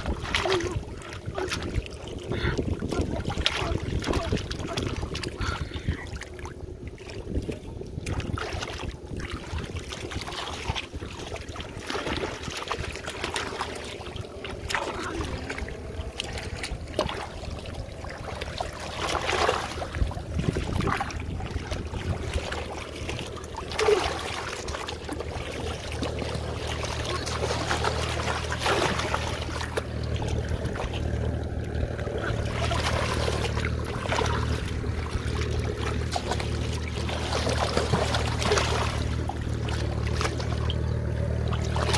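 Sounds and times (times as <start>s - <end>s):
splashing in shallow water: 0.0s - 41.9s
wind rumble on microphone: 0.0s - 41.9s.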